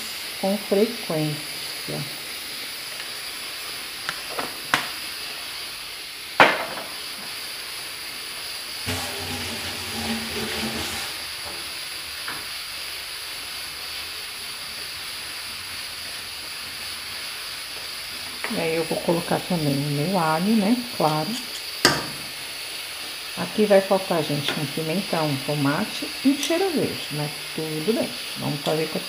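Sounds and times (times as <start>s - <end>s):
chicken sizzling in a pot: 0.0s - 29.0s.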